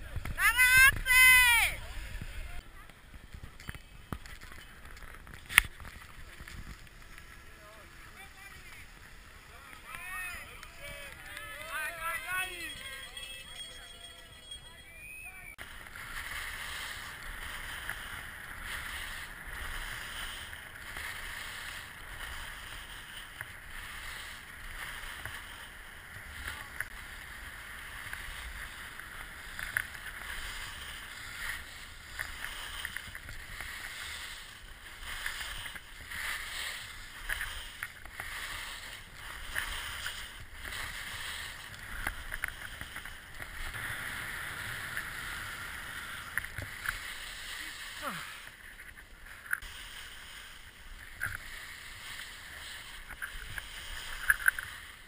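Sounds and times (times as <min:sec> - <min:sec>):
skis scraping over packed snow: 0:00.0 - 0:13.9, 0:14.6 - 0:55.0.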